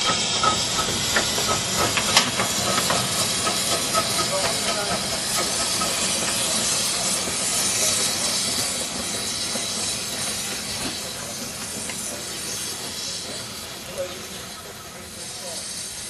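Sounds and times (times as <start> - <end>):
steam locomotive hissing: 0.0 - 16.0.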